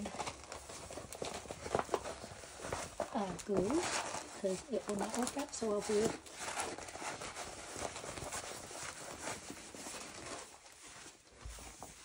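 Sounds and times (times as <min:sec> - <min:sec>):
canvas rustling: 0:00.0 - 0:12.0.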